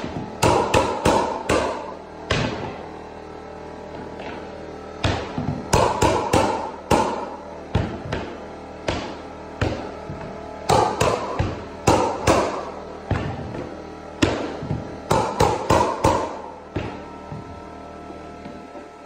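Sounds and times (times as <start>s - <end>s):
mallet striking flooring nailer: 0.0s - 2.8s, 3.9s - 17.7s.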